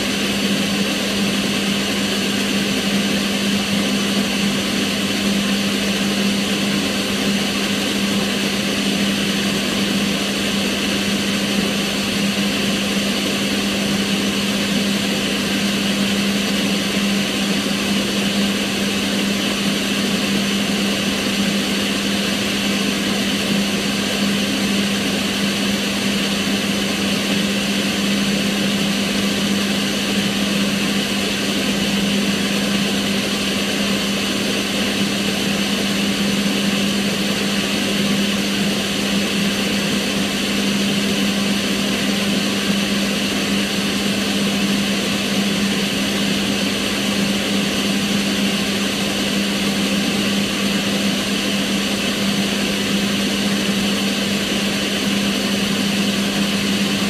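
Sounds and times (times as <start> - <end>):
range hood fan rushing: 0.0 - 57.0.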